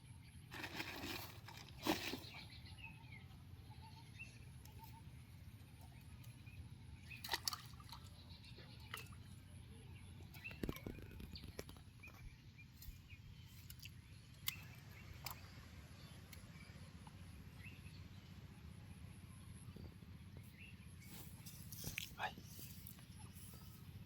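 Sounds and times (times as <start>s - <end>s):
low steady rumble: 0.0s - 10.4s, 11.3s - 24.0s
faint bird chirps: 1.9s - 24.0s.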